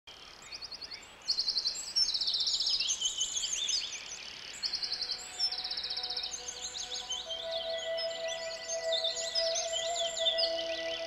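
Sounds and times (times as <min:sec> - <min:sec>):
songbirds singing fast trills: 0:00.1 - 0:11.0.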